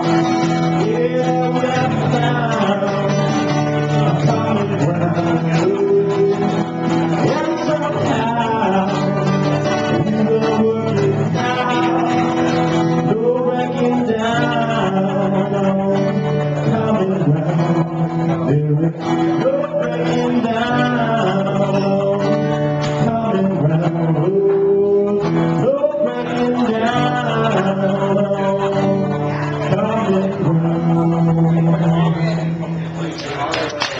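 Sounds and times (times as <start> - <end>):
man singing: 0.0 - 33.0
acoustic guitar: 0.0 - 33.9.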